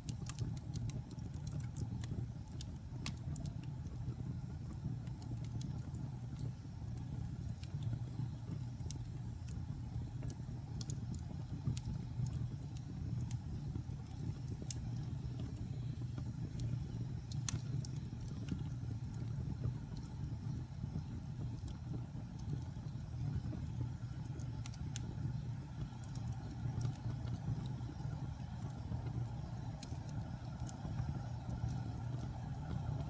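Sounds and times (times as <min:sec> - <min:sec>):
fire crackling and popping: 0:00.0 - 0:33.0
fire flames rumbling: 0:00.0 - 0:33.0.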